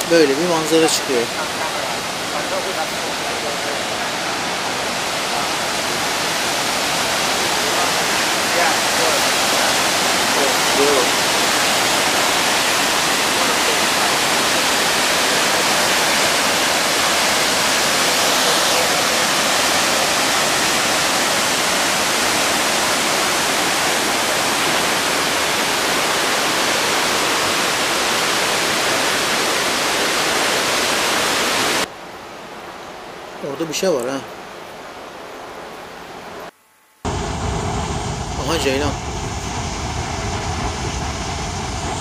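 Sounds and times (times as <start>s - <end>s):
waterfall roaring: 0.0s - 33.8s, 38.4s - 39.0s, 41.8s - 42.0s.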